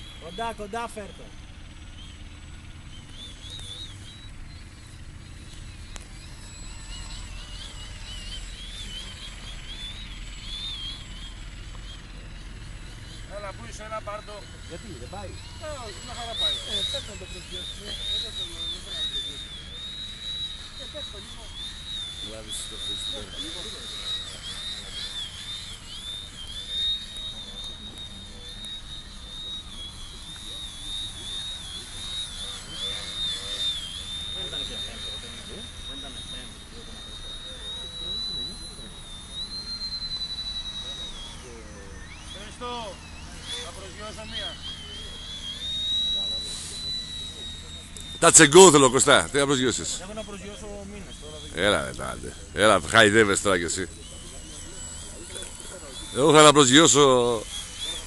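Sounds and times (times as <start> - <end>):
model plane motor whine: 0.0 - 58.0.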